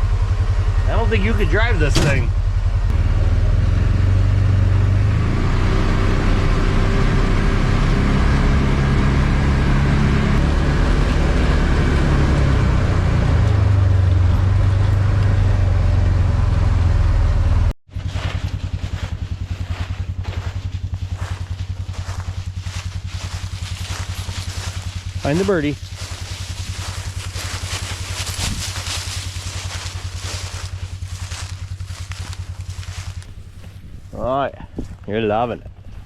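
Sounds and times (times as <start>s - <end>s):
pulsing engine drone: 0.0s - 36.0s
utility vehicle engine running: 0.0s - 36.0s.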